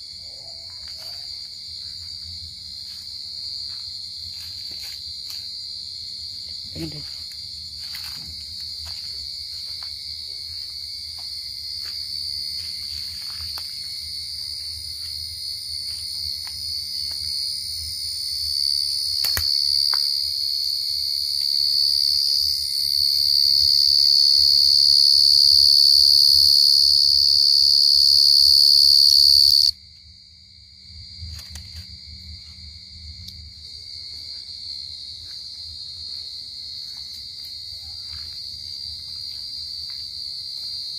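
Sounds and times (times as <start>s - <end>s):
cricket trilling close by: 0.0s - 39.6s
distant crickets calling: 0.0s - 40.9s.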